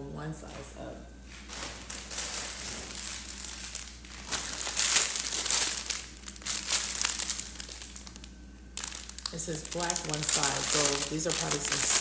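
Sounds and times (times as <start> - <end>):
plastic packaging crinkling: 1.3 - 12.0.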